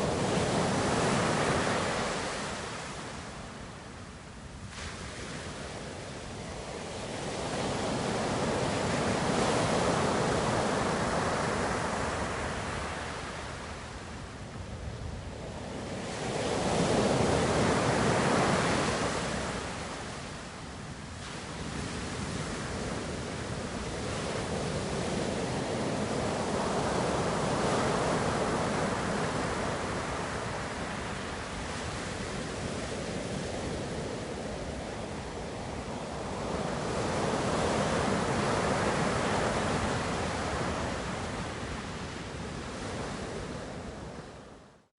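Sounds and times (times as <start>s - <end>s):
ocean waves breaking on shore: 0.0s - 44.7s.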